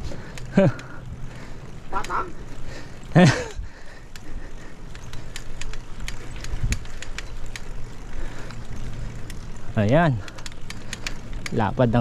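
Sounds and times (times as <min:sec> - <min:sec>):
bicycle riding hum: 0:00.0 - 0:12.0
bicycle ticks and rattles: 0:00.0 - 0:12.0.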